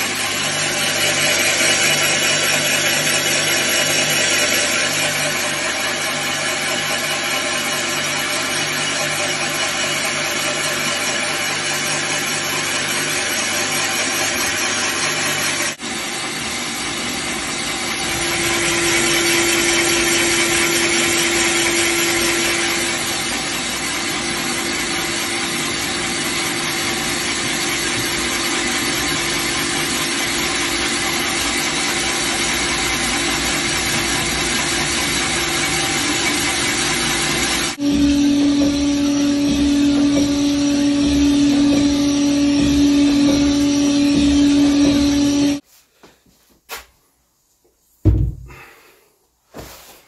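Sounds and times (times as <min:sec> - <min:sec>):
boring machine running: 0:00.0 - 0:45.6.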